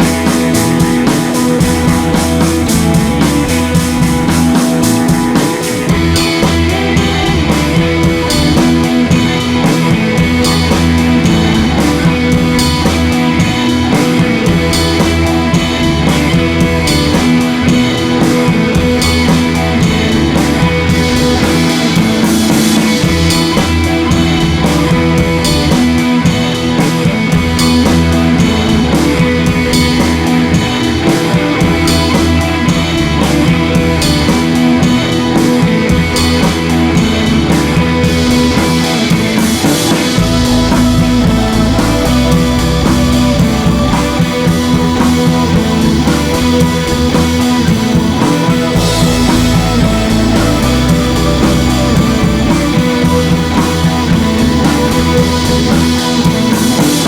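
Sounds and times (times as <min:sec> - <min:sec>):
rock instrumental music: 0:00.0 - 0:57.0.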